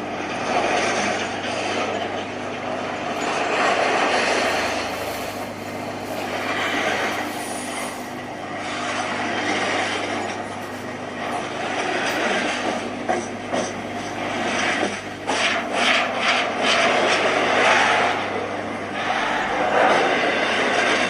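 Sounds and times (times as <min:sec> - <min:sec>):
train engine hum: 0:00.0 - 0:21.0
train rumbling along track: 0:00.0 - 0:21.0.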